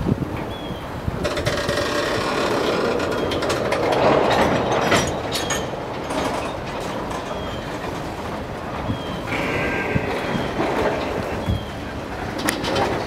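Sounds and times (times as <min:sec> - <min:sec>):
freight train wheels rumbling: 0:00.0 - 0:13.0
sharp clacks of wheels: 0:01.2 - 0:13.0.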